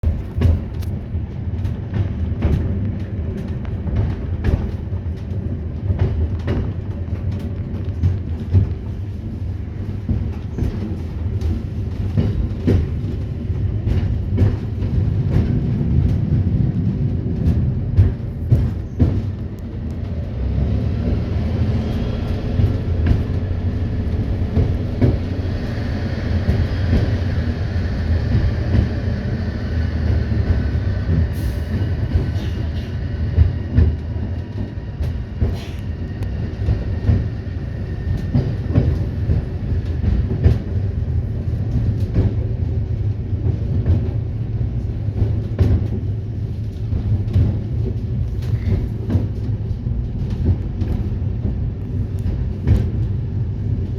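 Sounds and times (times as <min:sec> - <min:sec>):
train rumbling on track: 0:00.0 - 0:53.9
wheels clicking on rails: 0:00.0 - 0:53.9.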